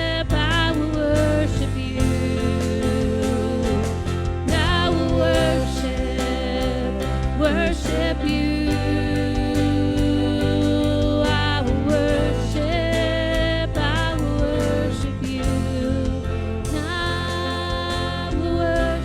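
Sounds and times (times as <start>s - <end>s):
low bass: 0.0s - 19.0s.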